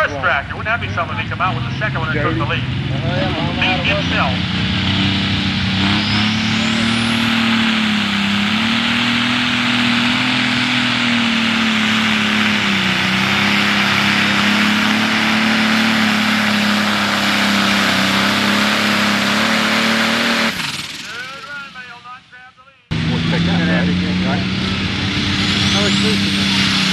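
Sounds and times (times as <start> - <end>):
diesel tractor engine under load: 0.0 - 22.2, 22.9 - 26.9.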